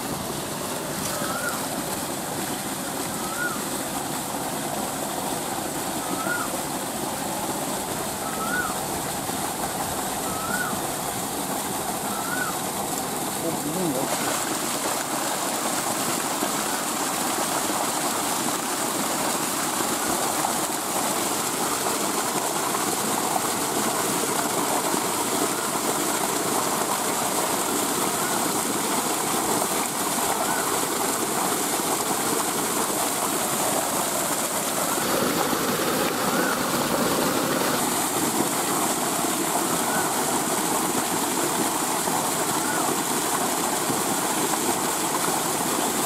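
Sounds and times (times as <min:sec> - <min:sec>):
water jet gushing and splashing: 0:00.0 - 0:46.0.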